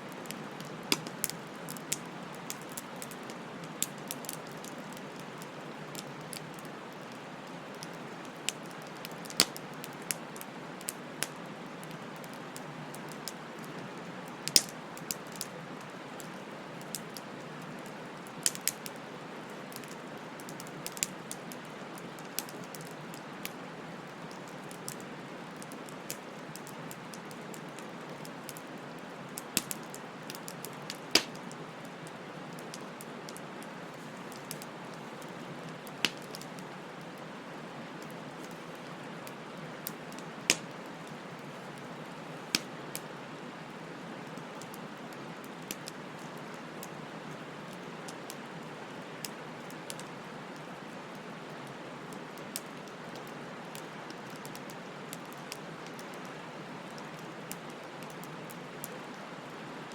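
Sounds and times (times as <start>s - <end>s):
burning wood crackling and popping: 0.1s - 43.1s, 43.9s - 59.9s.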